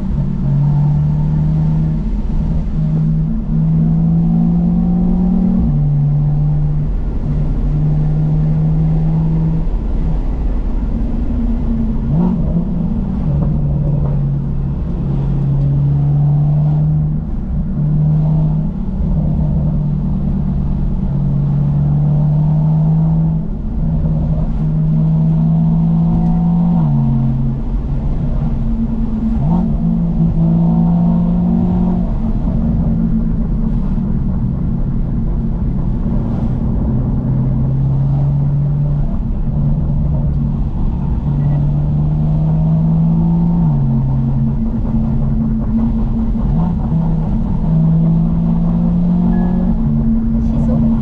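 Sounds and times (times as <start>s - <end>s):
car engine exhaust drone: 0.0s - 51.0s.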